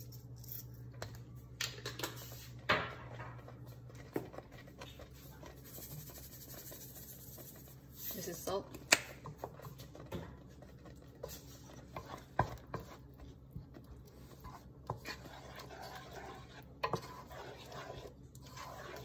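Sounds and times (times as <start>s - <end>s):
wooden spoon stirring thick sauce: 2.3s - 19.0s.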